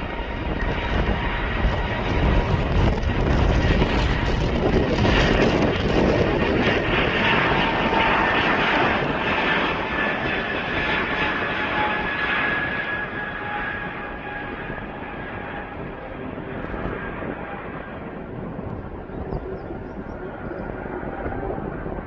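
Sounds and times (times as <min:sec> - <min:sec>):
airplane engines passing: 0:00.0 - 0:22.0.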